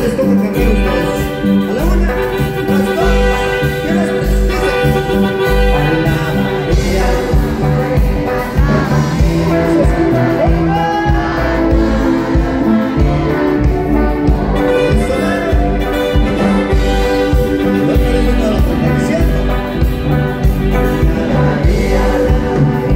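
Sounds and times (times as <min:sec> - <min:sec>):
live band playing amplified music: 0:00.0 - 0:22.9
person singing: 0:00.0 - 0:22.9.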